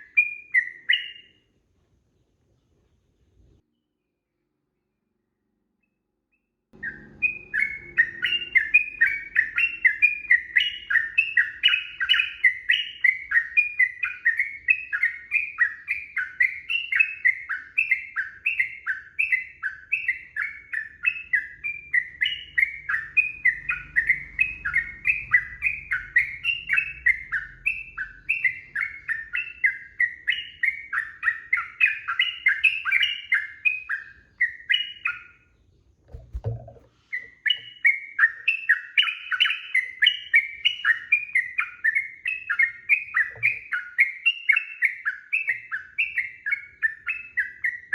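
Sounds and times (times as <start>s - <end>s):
bird chirping song: 0.0s - 47.9s.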